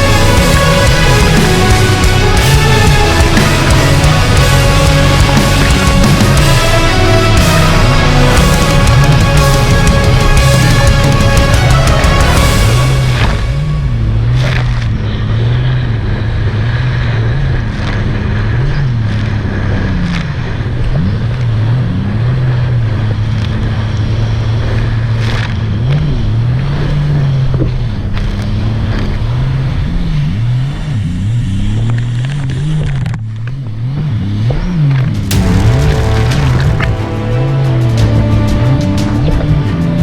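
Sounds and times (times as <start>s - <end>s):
personal watercraft engine revving: 0.0s - 40.0s.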